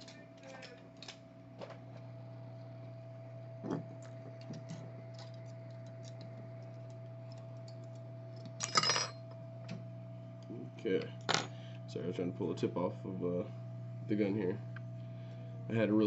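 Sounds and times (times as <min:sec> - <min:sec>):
hot-air gun humming: 0:00.0 - 0:16.0.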